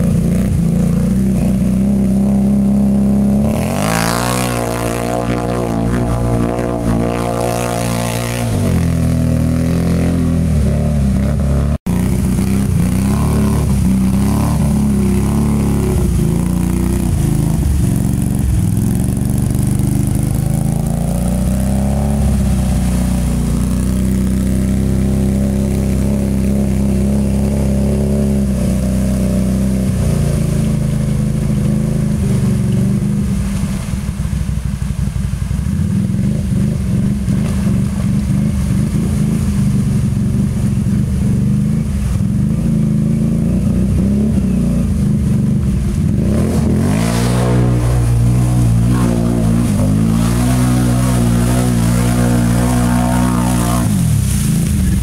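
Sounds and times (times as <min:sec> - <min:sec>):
atv engine revving: 0:00.0 - 0:55.0
water splashing around wheels: 0:00.0 - 0:55.0.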